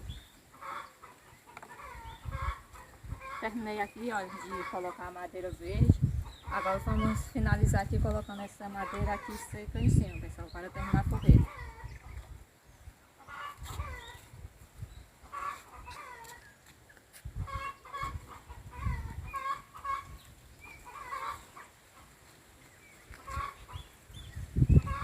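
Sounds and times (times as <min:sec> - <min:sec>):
chickens clucking: 0:00.0 - 0:12.4, 0:13.0 - 0:14.4, 0:15.2 - 0:25.0.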